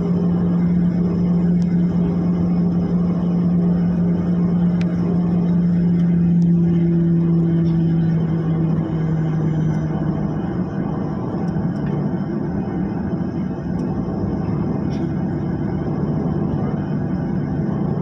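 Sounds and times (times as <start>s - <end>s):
aircraft cabin engine rumble: 0.0s - 18.0s
low engine hum: 0.0s - 18.0s.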